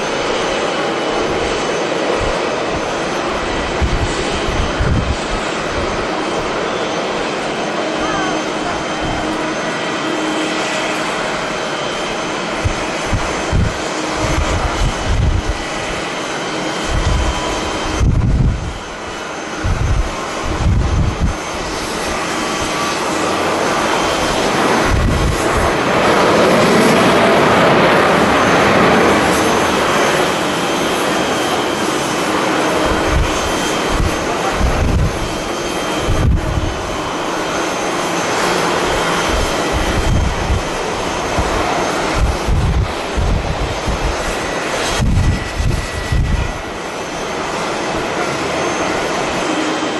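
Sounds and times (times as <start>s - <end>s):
jet engines roaring: 0.0s - 49.9s
wind buffeting microphone: 0.0s - 49.9s.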